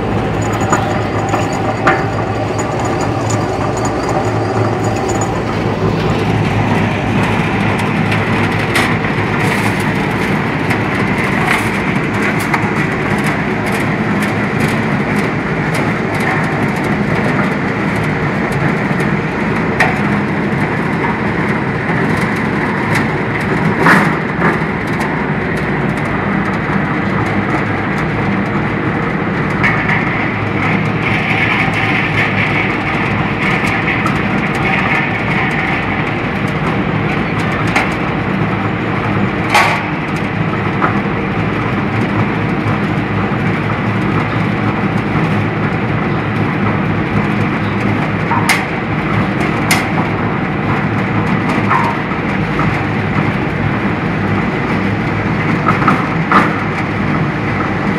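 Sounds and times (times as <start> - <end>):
briquette machine running: 0.0 - 57.9.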